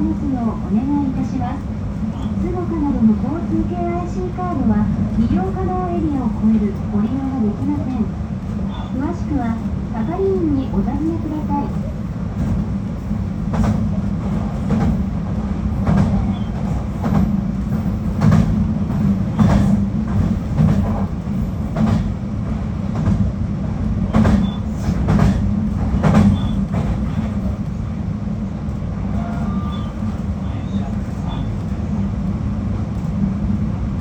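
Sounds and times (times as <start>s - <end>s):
train running on track: 0.0s - 34.0s.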